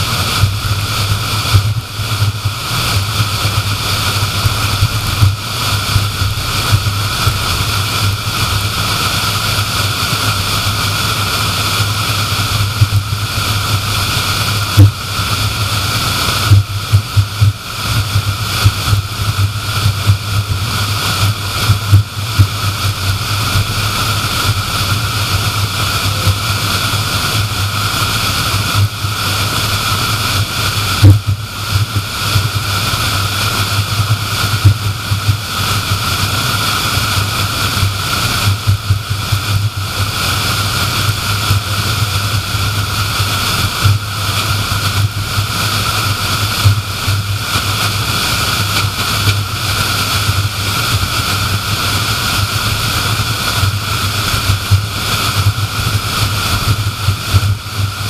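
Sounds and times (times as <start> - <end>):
car road noise at highway speed: 0.0 - 58.0.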